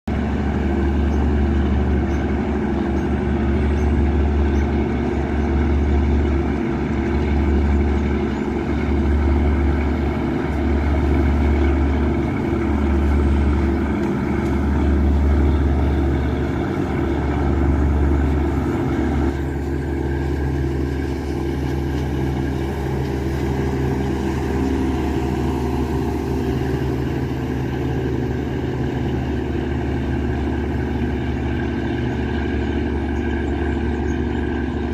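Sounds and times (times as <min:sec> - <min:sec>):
boat diesel engine throbbing: 0:00.1 - 0:34.9.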